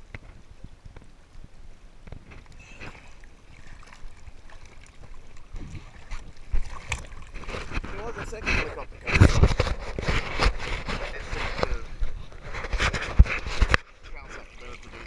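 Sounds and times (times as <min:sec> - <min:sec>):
waves thudding against camera: 0:00.0 - 0:15.0
sea water sloshing: 0:00.1 - 0:15.0.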